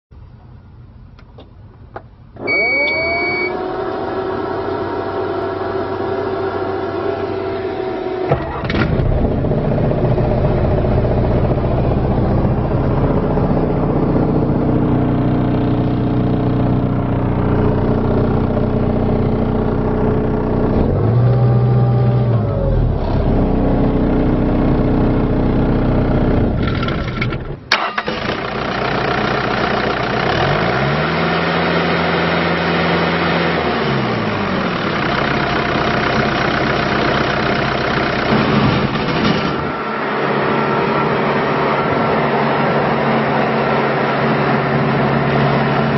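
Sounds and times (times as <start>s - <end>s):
diesel engine starting and running: 0.1s - 45.9s.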